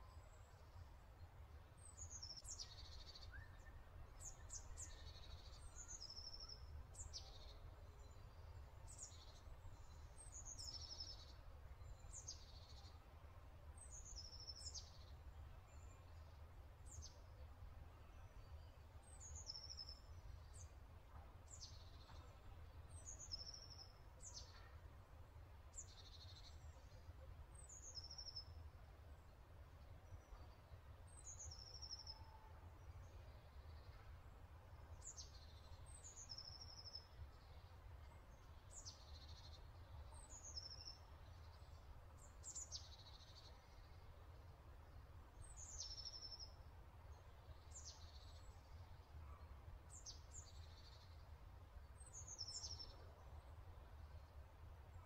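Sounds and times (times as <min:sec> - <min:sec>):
faint birdsong chirps: 0:00.0 - 0:55.0.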